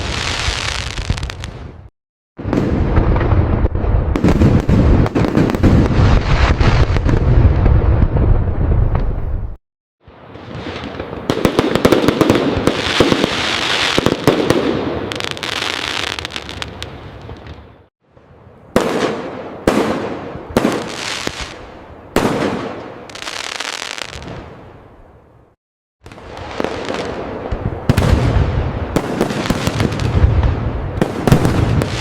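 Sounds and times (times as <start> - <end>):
fireworks crackling: 0.0 - 9.4, 10.2 - 17.7, 18.8 - 24.6, 26.0 - 32.0
fireworks aerial bursts: 0.0 - 17.9, 18.7 - 24.7, 26.0 - 32.0.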